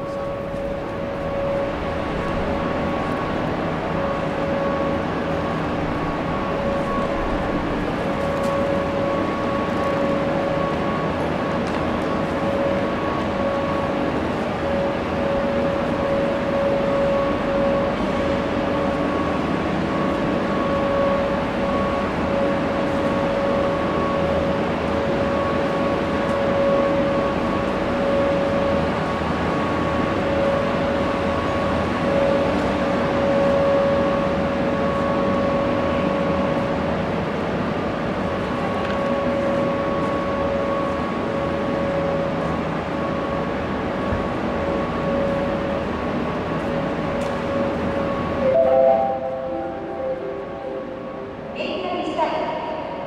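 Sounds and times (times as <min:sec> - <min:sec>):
fainter high whining tone: 0:00.0 - 0:37.0, 0:37.7 - 0:53.0
constant whining tone: 0:00.0 - 0:52.9.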